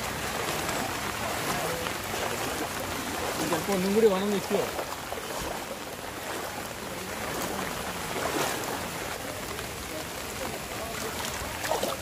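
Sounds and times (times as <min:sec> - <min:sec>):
floodwater splashing: 0:00.0 - 0:12.0.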